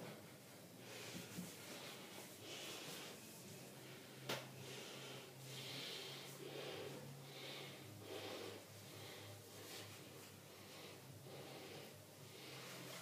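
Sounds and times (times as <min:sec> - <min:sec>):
low steady hum: 0:00.0 - 0:13.0
faint breathing: 0:00.8 - 0:13.0.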